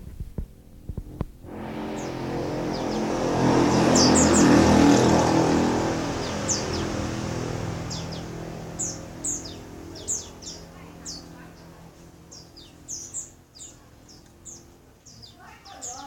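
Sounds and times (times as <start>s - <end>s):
vehicle passing: 0.6s - 16.0s
bird chirping: 1.6s - 16.0s.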